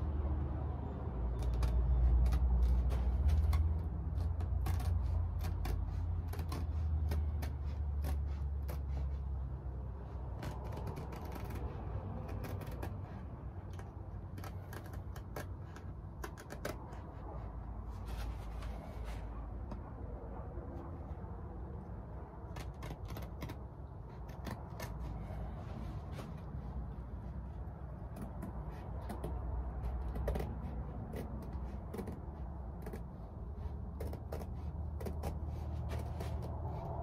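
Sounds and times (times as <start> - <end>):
scissors snipping canvas: 0.0 - 19.9, 21.8 - 37.0.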